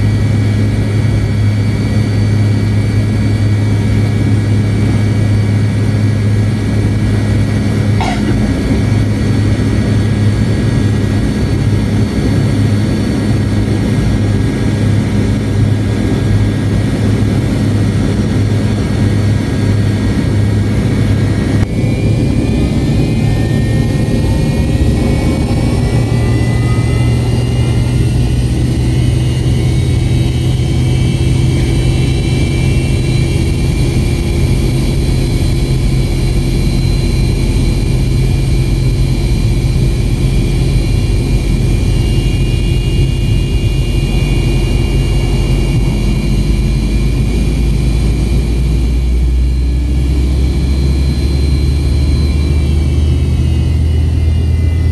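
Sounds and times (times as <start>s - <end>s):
jet engine drone in cabin: 0.0s - 54.9s
jet engine whine: 0.0s - 54.9s.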